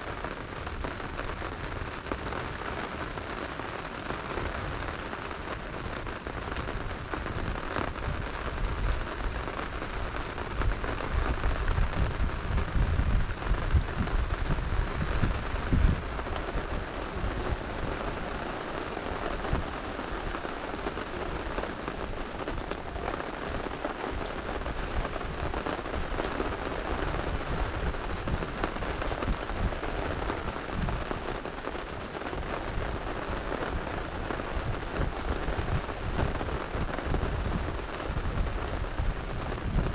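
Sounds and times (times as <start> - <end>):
campfire crackling: 0.0 - 39.9
rain falling: 0.0 - 39.9.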